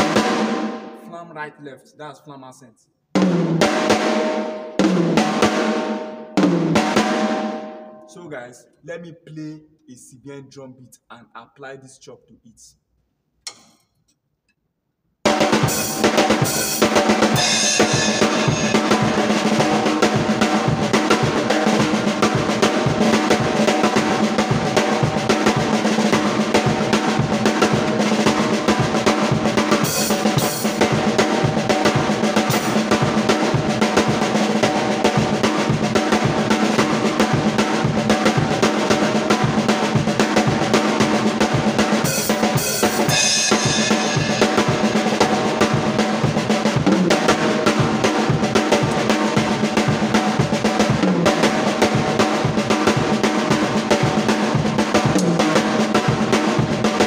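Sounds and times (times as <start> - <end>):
drum kit playing fast groove: 0.0 - 1.2, 3.2 - 8.4, 15.3 - 57.0.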